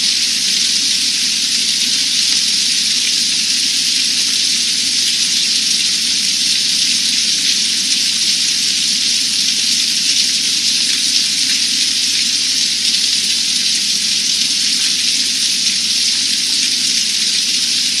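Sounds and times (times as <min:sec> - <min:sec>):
hard rain on open water: 0:00.0 - 0:18.0.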